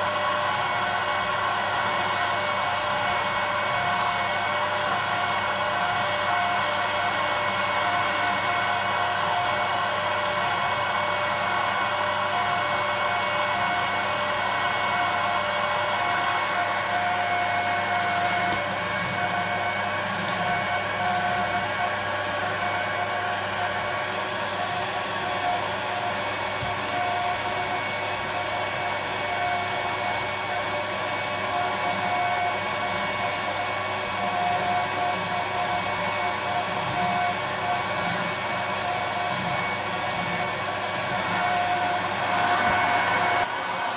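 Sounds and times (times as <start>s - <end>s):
vacuum cleaner whining: 0.0s - 43.9s
vacuum nozzle moving over carpet: 0.0s - 43.9s.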